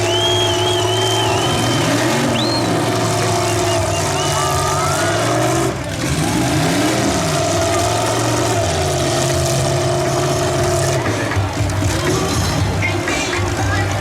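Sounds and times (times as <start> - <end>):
car engines running: 0.0 - 14.0
engine revving: 0.0 - 14.0.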